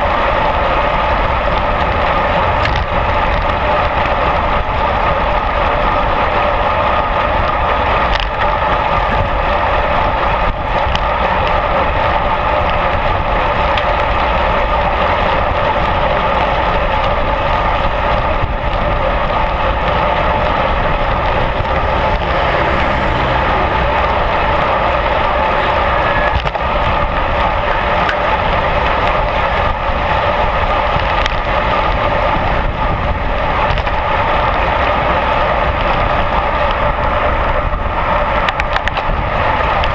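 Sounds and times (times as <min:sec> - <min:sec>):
tyre noise on asphalt: 0:00.0 - 0:39.9
wind over microphone: 0:00.0 - 0:39.9.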